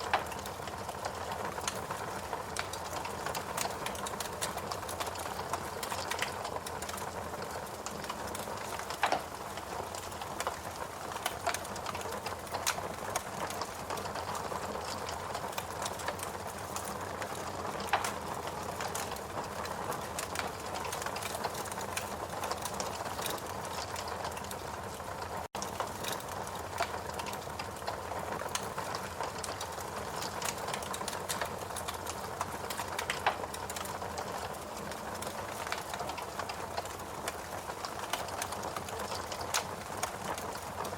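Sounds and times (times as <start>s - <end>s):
fire pops and snaps: 0.0s - 40.9s
fireplace crackling: 0.0s - 40.9s.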